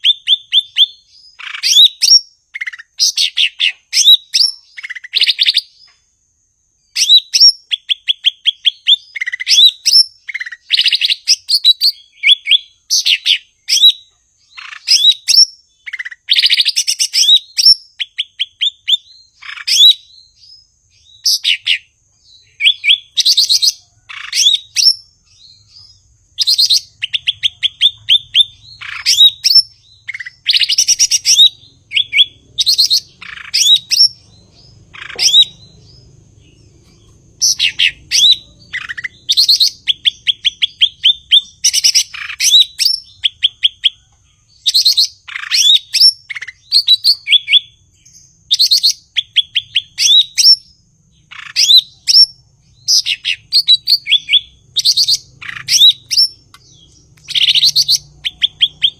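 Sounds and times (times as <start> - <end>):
bird whistling and trilling: 0.0 - 5.9, 6.9 - 58.9.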